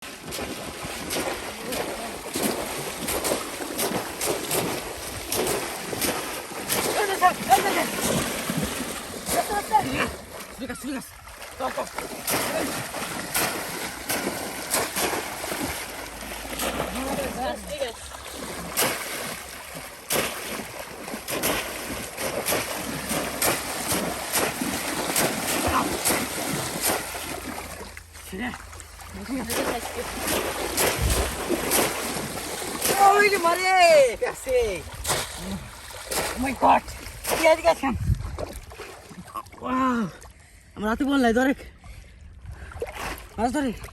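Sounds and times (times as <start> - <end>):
steady rushing water: 0.0 - 38.0
river water splashing: 0.0 - 40.8, 41.9 - 43.9.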